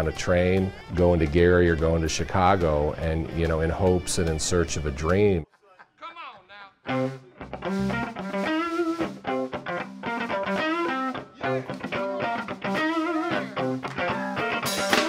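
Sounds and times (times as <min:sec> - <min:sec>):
bass guitar line: 0:00.0 - 0:05.4, 0:06.9 - 0:15.0
blues electric guitar lead: 0:00.0 - 0:05.4, 0:06.9 - 0:15.0.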